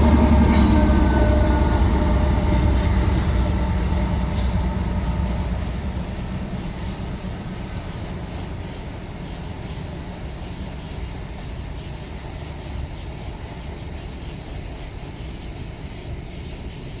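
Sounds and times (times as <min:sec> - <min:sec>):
train rolling by rumbling: 0:00.0 - 0:17.0.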